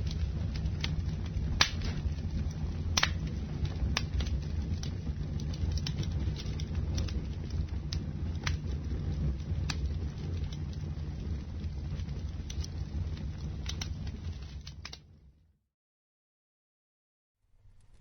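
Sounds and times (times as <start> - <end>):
torch flames rushing: 0.0 - 15.3
fire crackles and pops: 0.0 - 15.4, 17.5 - 18.0.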